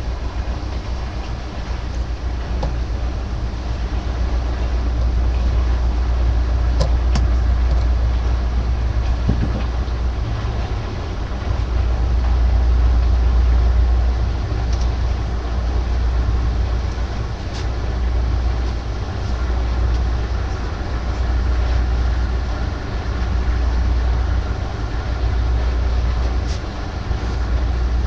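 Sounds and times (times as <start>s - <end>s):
heavy machinery rumbling: 0.0s - 28.0s.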